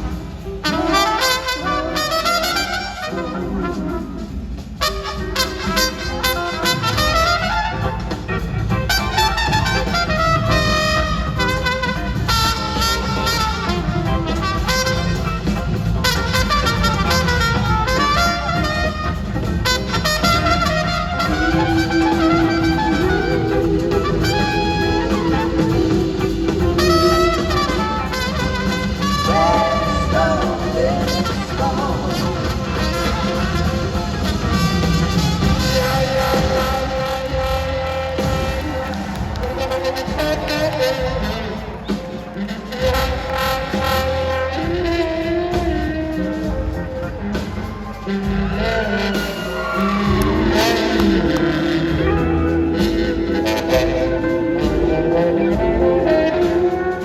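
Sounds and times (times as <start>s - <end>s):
brass horns: 0.0s - 57.0s
live band playing soul-blues: 0.0s - 57.0s.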